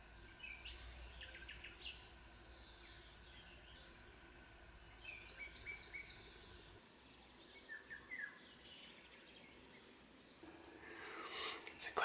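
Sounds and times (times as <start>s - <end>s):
background hiss: 0.0s - 12.0s
faint birdsong chirps: 0.0s - 12.0s.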